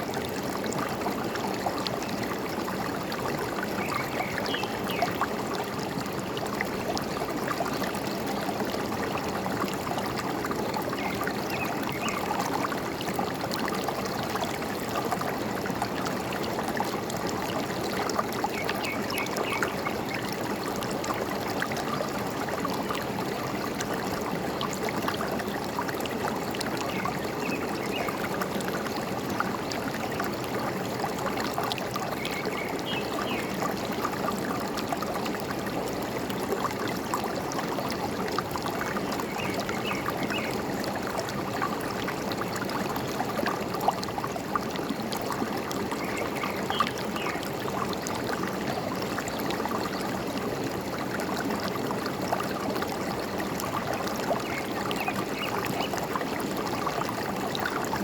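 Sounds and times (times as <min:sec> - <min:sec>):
stream trickling and gurgling: 0:00.0 - 0:58.0.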